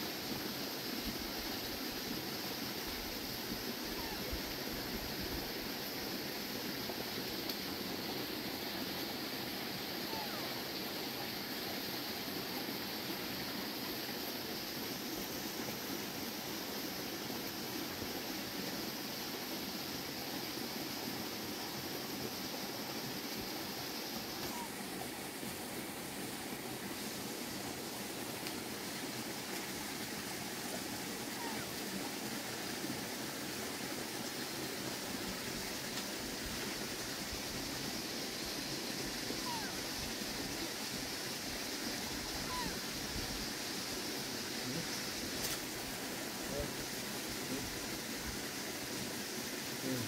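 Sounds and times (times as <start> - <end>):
rushing flowing water: 0.0 - 50.0.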